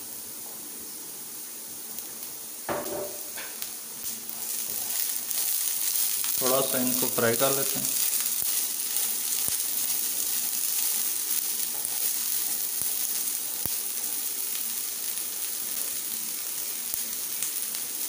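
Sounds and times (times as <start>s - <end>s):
potatoes sizzling in hot oil: 0.0s - 18.0s.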